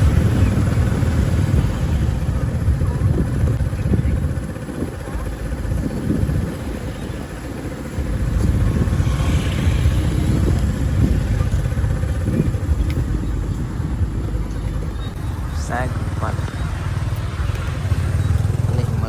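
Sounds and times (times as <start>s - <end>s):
motorbike engines rumbling: 0.0s - 19.0s.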